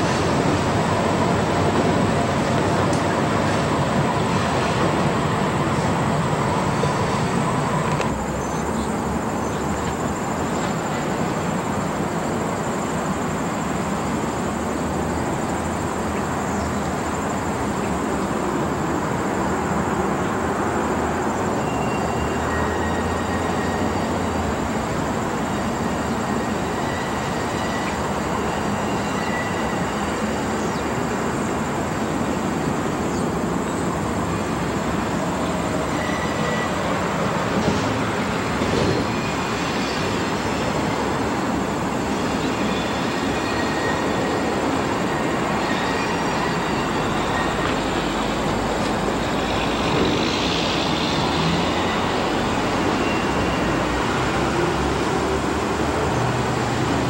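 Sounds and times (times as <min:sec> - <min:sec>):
diesel locomotive running: 0:00.0 - 0:57.0
rail noise: 0:00.0 - 0:57.0.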